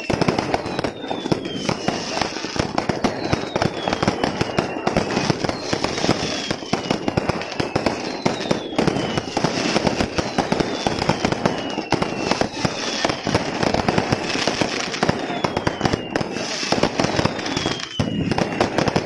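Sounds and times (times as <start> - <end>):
falling firework whistles: 0.0 - 19.0
fireworks bangs and crackles: 0.0 - 19.0.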